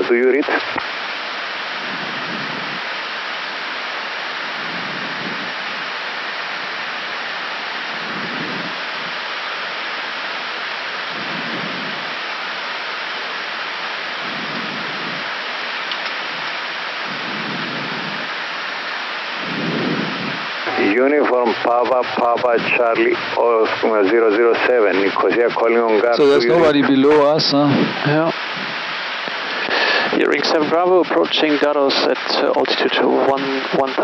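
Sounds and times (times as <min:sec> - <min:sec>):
ventilation hiss: 0:00.0 - 0:34.0.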